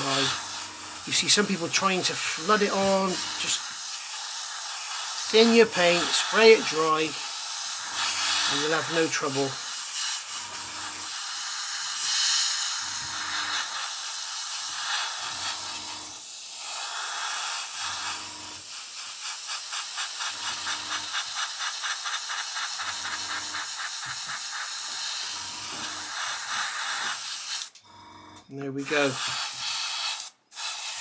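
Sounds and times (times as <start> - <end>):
airbrush hissing: 0.0 - 27.7, 28.7 - 31.0.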